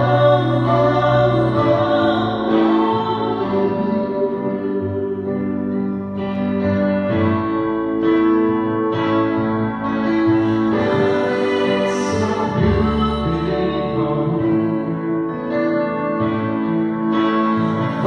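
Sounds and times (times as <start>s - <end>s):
guitar playing chords: 0.0s - 18.0s.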